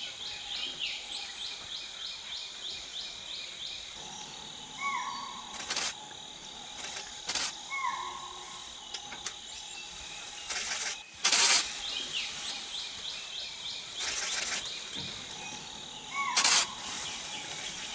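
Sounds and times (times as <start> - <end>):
insect drone: 0.0 - 17.9.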